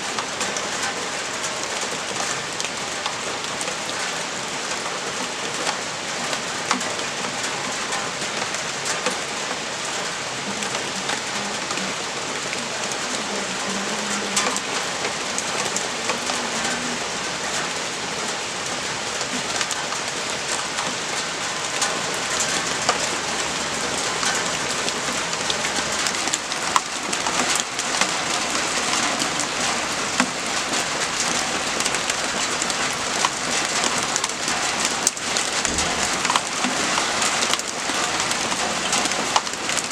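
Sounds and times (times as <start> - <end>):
sharp raindrop ticks: 0.0 - 39.9
steady rain falling: 0.0 - 39.9.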